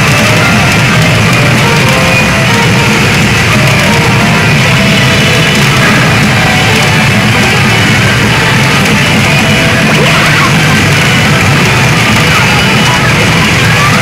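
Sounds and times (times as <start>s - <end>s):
loud game machine music: 0.0s - 14.0s.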